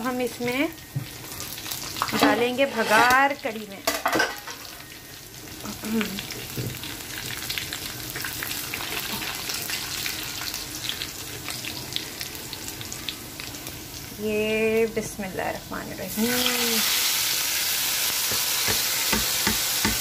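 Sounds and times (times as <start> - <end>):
hot oil sizzling in a pan: 0.0 - 20.0.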